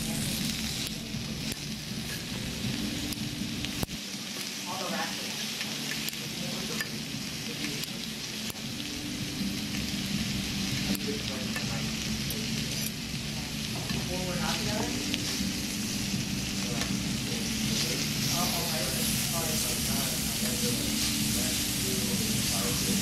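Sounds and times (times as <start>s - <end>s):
meat sizzling on griddle: 0.0s - 23.0s.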